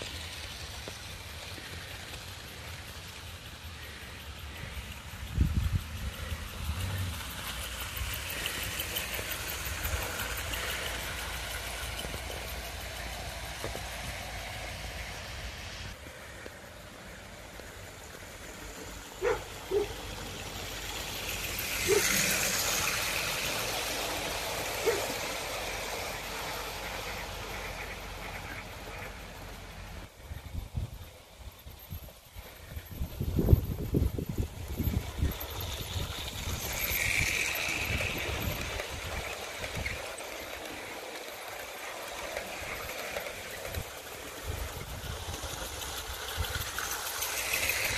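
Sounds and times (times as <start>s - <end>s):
model train wheels rumbling: 0.0s - 47.9s.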